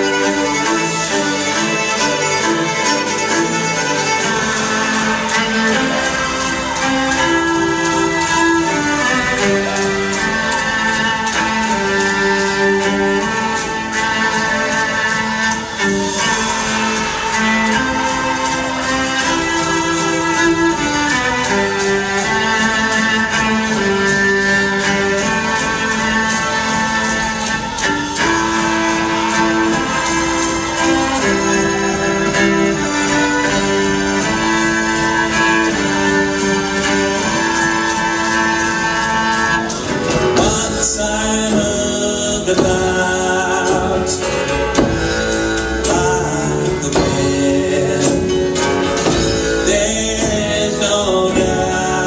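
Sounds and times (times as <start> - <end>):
keyboard: 0.0 - 52.0
person singing: 0.0 - 52.0
steady drum beat: 0.0 - 52.0
violin playing long notes: 0.0 - 52.0.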